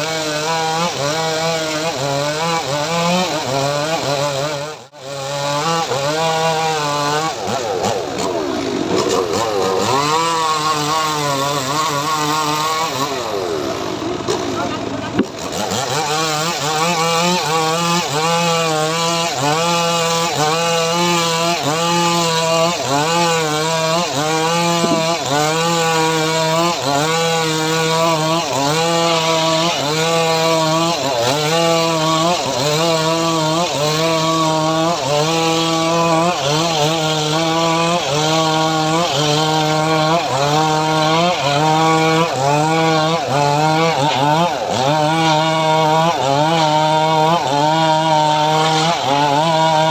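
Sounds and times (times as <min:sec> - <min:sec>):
engine-driven saw cutting wood: 0:00.0 - 0:49.9.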